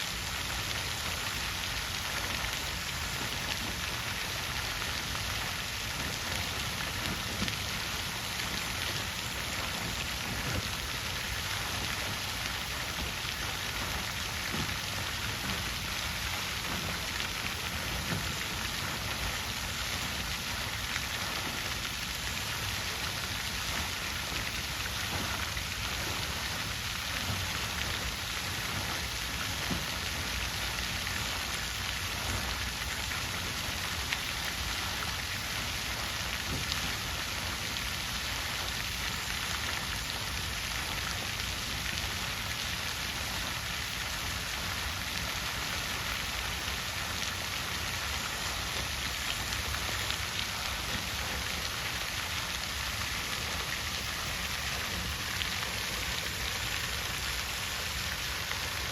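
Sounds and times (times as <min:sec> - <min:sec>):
water fountain splashing: 0:00.0 - 0:58.9.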